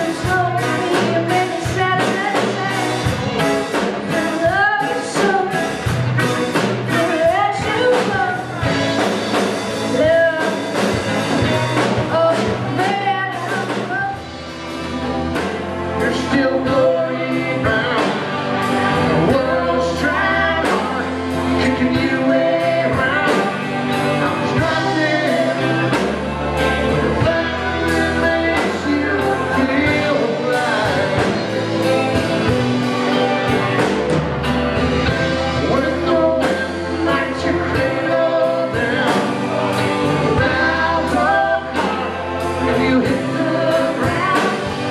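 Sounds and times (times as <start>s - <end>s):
person singing: 0.0s - 9.1s, 9.8s - 14.5s, 15.3s - 33.9s, 35.0s - 44.9s
live band playing: 0.0s - 44.9s.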